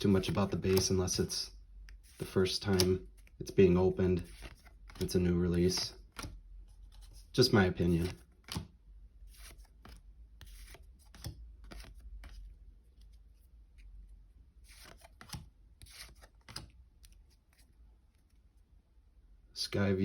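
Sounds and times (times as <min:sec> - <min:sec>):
cards being flipped by hand: 0:00.0 - 0:18.6.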